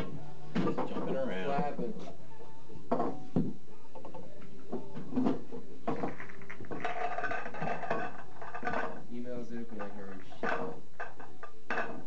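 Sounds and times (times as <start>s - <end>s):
pool balls clacking: 0.0s - 1.8s, 2.9s - 12.0s.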